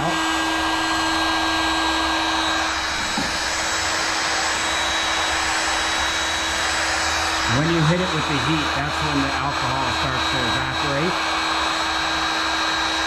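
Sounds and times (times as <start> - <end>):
heat gun air rushing: 0.0 - 13.0
heat gun motor hum: 0.0 - 13.0.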